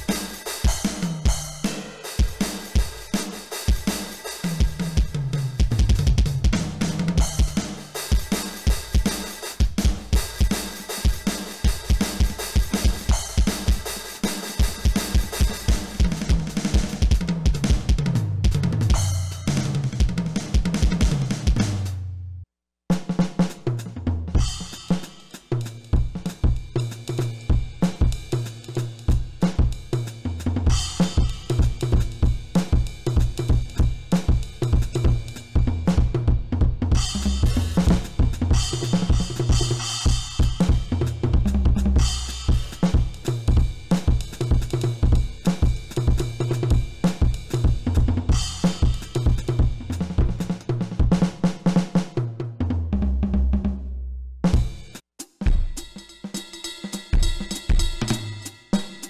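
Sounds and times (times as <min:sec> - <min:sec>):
electronic drum kit played fast: 0:00.0 - 0:22.0, 0:22.9 - 0:53.8, 0:54.4 - 0:59.0.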